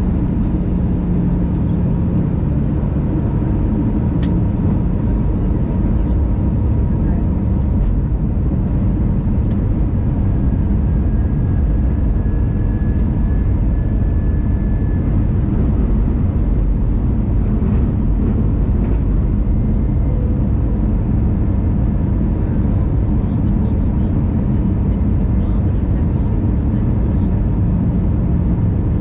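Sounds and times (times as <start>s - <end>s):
aircraft cabin engine rush: 0.0s - 29.0s.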